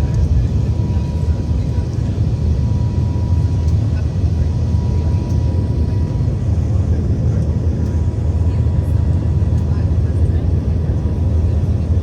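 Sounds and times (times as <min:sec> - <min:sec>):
airliner engines rumbling in cabin: 0:00.0 - 0:12.0.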